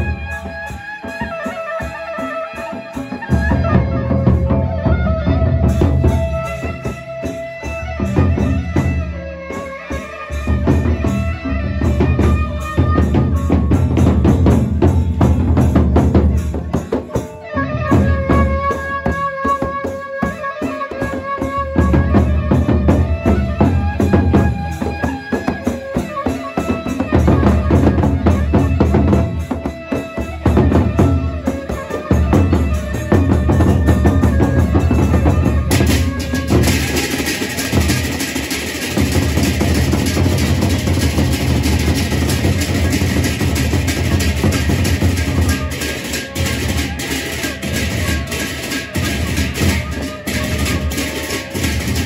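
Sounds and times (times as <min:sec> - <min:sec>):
barrel drums beaten fast: 0:00.0 - 0:52.0
cymbals: 0:00.0 - 0:52.0.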